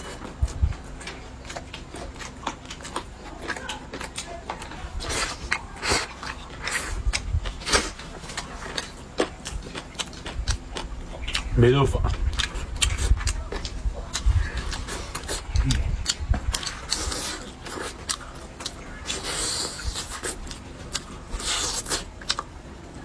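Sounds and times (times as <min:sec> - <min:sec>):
wet chewing clicks and smacks: 0:00.0 - 0:23.0.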